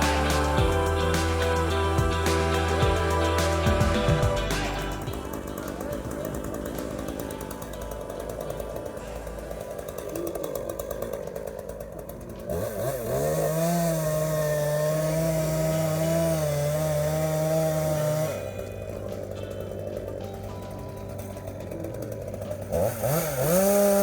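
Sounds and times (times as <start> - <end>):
chainsaw running: 0.0 - 24.0.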